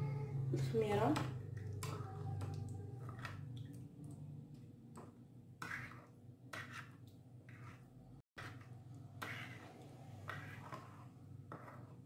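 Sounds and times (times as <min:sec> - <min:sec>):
spoon stirring in a bowl: 0:00.7 - 0:12.0.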